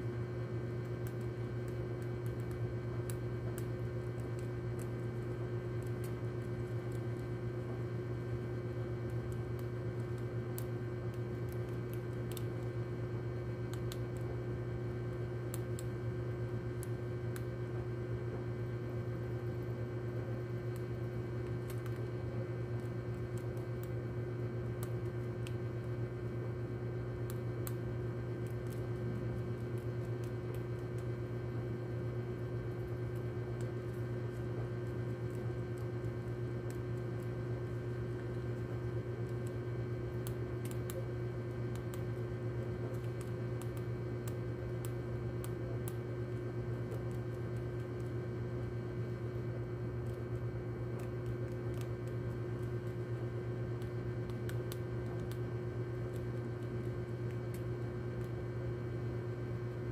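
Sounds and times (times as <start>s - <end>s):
low electrical hum: 0.0s - 59.9s
rats gnawing on cardboard: 0.0s - 59.9s.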